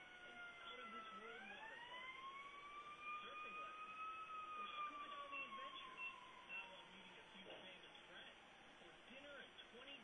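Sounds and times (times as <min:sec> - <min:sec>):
faint siren wailing: 0:00.0 - 0:09.0.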